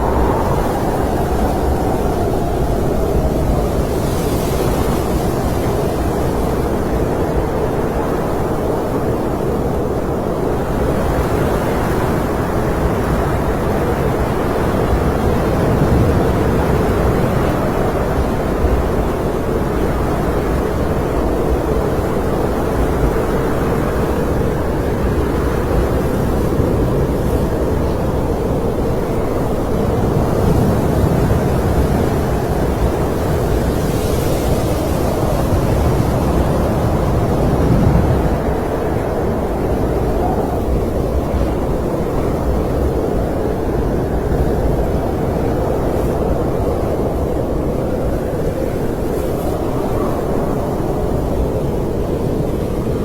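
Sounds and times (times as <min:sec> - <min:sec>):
snowstorm wind blowing: 0:00.0 - 0:53.0.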